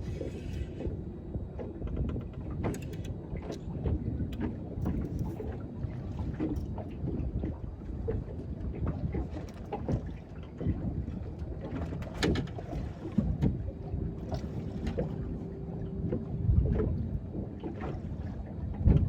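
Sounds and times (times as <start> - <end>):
water lapping against boat hull: 0.0 - 19.0
wind rumbling on microphone: 0.0 - 19.0.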